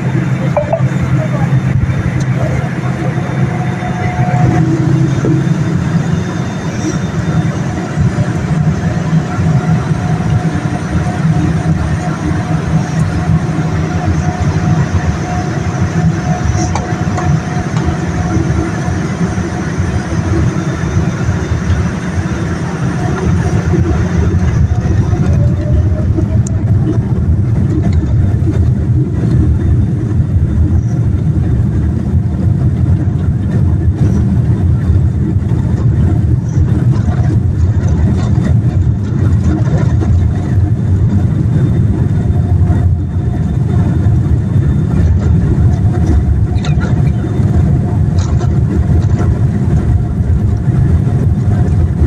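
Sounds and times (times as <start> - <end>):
airliner cabin engine rumble: 0.0 - 52.0.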